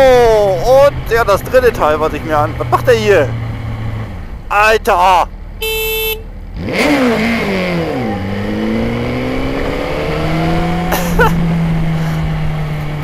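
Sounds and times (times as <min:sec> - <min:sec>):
motorcycle engine revving: 0:00.3 - 0:04.4, 0:05.6 - 0:13.0.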